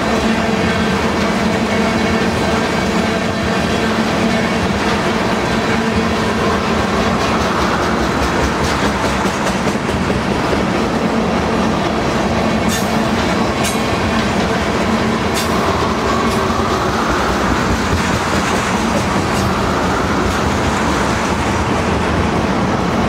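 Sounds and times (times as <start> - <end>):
train wheels clattering on track: 0.0 - 23.0.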